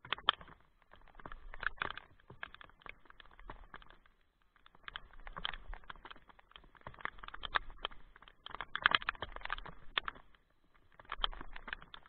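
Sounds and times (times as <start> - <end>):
rain tapping on kayak: 0.0 - 12.0.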